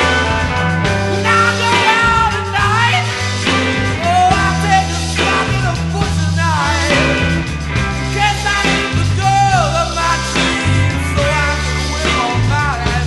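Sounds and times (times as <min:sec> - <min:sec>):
psychedelic rock band playing: 0:00.0 - 0:13.0
sliding bending guitar lead: 0:00.0 - 0:13.0.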